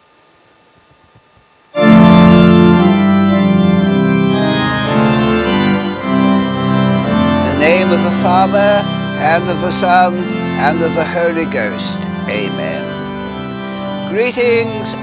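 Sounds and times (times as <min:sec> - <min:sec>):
organ chords: 0:01.7 - 0:15.0.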